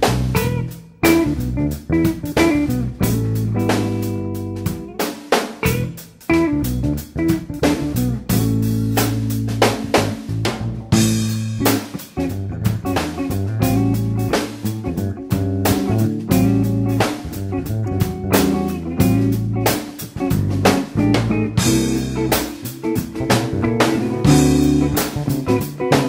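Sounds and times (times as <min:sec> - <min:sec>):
guitar and drum music: 0:00.0 - 0:26.0.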